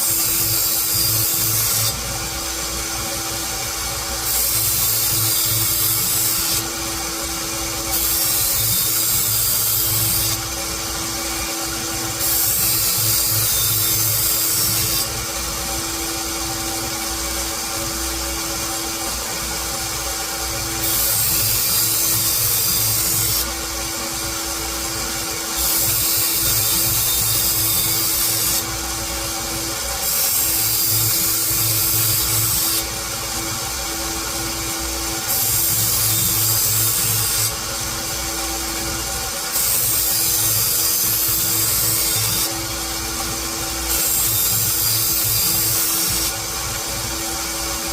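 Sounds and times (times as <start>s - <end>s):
electric grinder motor hum: 0.0s - 47.9s
steel grinding hiss: 0.0s - 47.9s.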